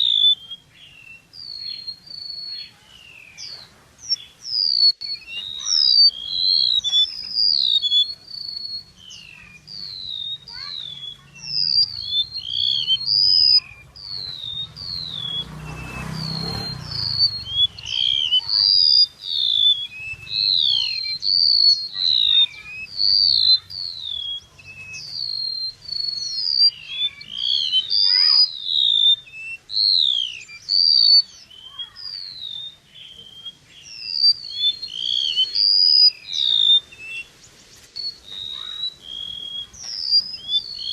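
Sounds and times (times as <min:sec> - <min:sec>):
bird chirps: 0:00.0 - 0:40.9.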